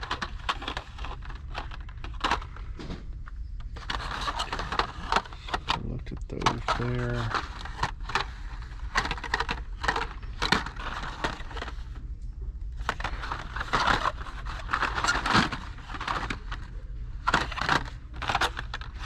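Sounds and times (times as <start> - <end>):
plastic packaging crinkling: 0.0 - 2.6, 3.7 - 11.9, 12.8 - 19.0
low store hum: 0.0 - 19.0.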